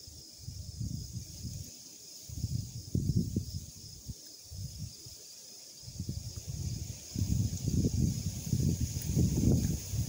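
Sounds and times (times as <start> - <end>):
faint high hiss: 0.0 - 10.0
wind buffeting microphone: 0.4 - 1.7, 2.3 - 5.2, 5.8 - 10.0.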